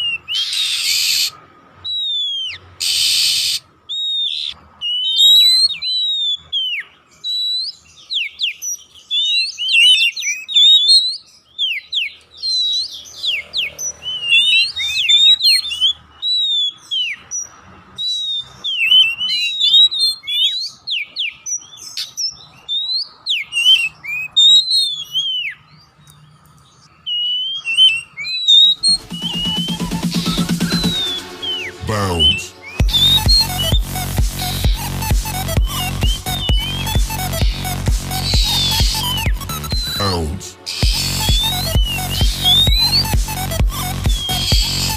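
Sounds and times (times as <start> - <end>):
songbird whistling and chirping: 0.0 - 44.9.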